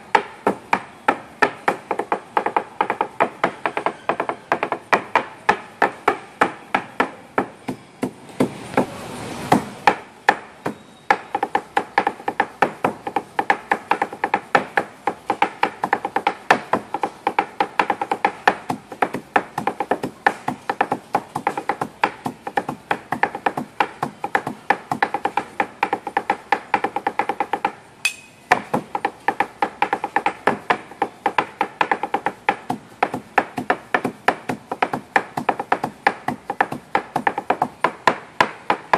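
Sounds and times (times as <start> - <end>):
cleavers chopping on wooden block: 0.1 - 8.9, 9.5 - 38.9.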